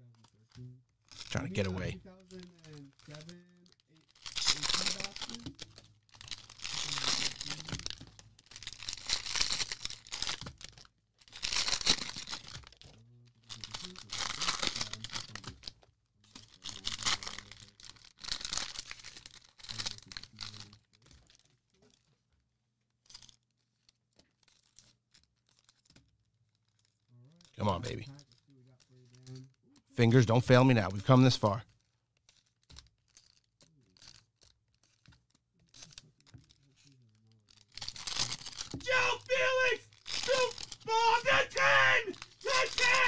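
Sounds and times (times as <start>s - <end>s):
cellophane wrappers tearing and crinkling: 0.0s - 15.7s, 16.3s - 22.0s, 23.1s - 26.0s, 26.6s - 29.6s, 32.2s - 43.0s.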